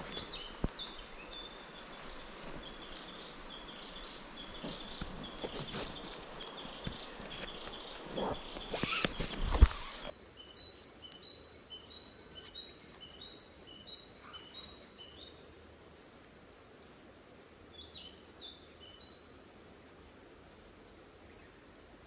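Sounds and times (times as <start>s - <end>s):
songbird singing faintly: 0.0s - 22.0s.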